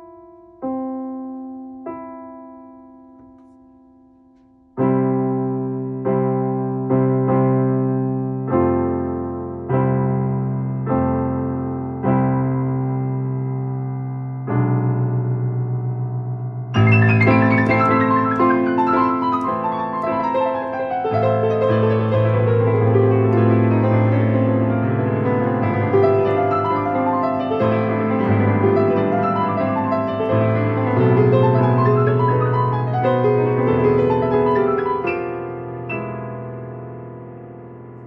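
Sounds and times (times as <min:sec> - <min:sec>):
digital piano playing: 0:00.0 - 0:38.0.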